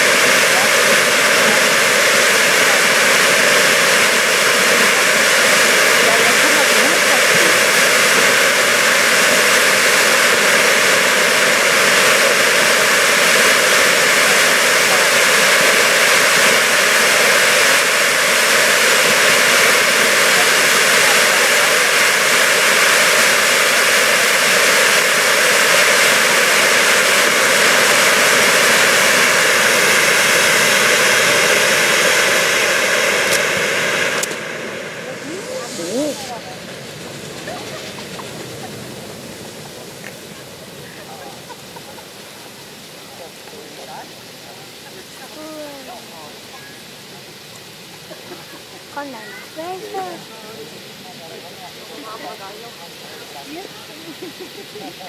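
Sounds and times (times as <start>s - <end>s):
firework fountains hissing: 0.0s - 55.0s.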